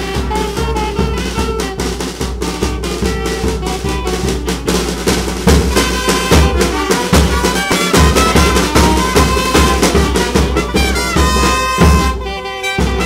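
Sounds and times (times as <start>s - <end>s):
bass drum strokes: 0.0s - 12.2s
brass band playing: 0.0s - 13.0s.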